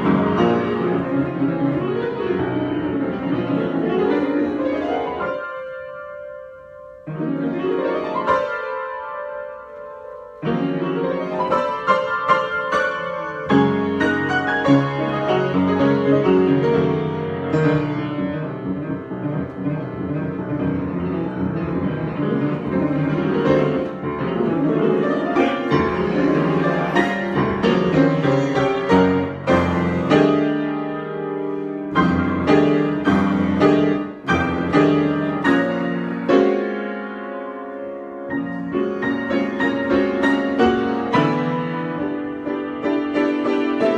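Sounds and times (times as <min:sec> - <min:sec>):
solo piano: 0:00.0 - 0:43.9.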